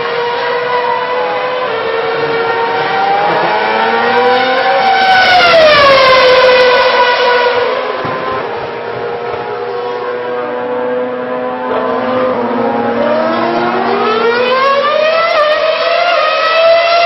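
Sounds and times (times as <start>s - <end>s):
racing car engines at high revs: 0.0s - 17.0s
racing car passing close: 0.0s - 17.0s.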